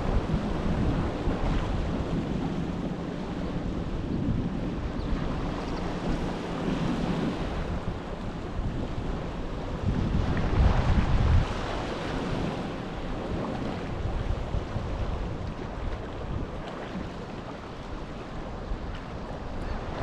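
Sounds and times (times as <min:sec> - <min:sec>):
sea waves washing on shore: 0:00.0 - 0:20.0
wind buffeting microphone: 0:00.0 - 0:20.0.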